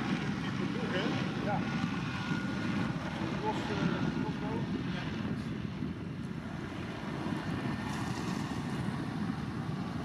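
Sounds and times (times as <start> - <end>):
wind noise: 0.0 - 10.0.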